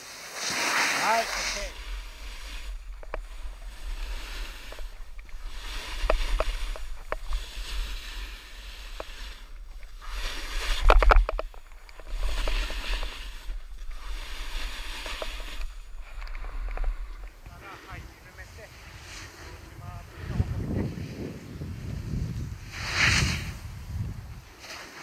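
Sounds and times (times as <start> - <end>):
snowboard scraping through snow: 0.0 - 25.0
wind rumbling on microphone: 1.1 - 24.6.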